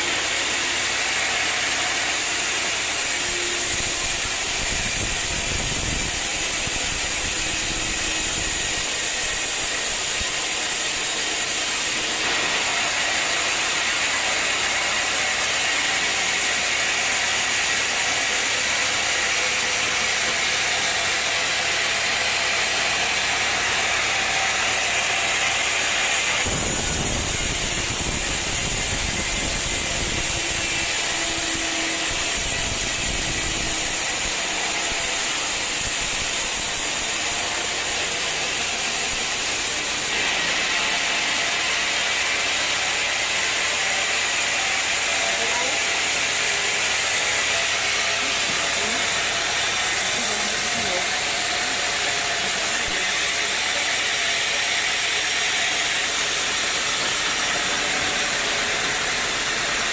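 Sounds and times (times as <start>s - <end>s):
sawmill machinery hissing: 0.0s - 59.9s.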